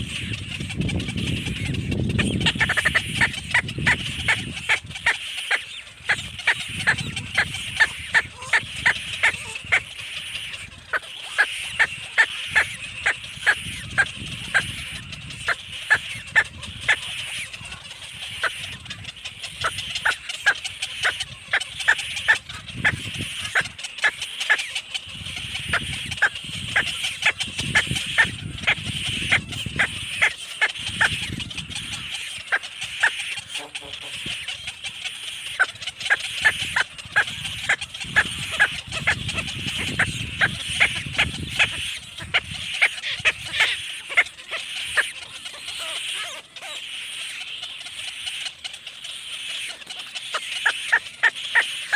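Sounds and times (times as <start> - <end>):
baby bird chirping: 0.1 - 17.6, 18.4 - 51.9.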